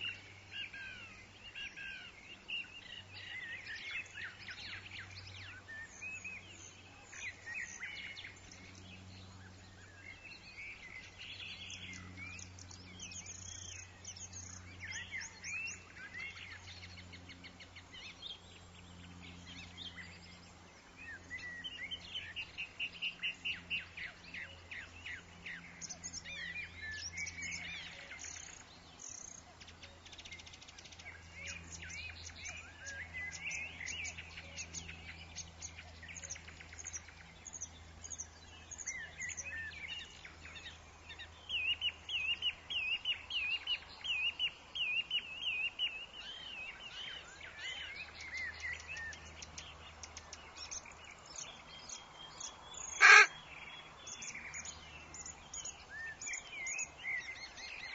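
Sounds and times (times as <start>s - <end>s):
birds chirping and singing: 0.0s - 57.9s.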